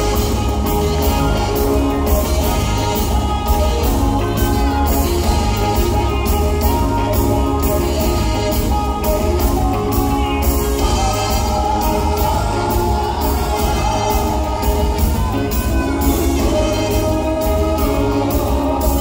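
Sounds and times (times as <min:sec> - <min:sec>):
live reggae band: 0:00.0 - 0:19.0
singer's voice: 0:00.0 - 0:19.0.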